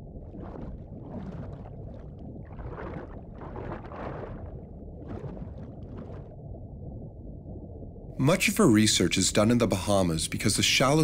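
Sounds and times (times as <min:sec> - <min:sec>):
underwater rush of water: 0:00.0 - 0:08.8.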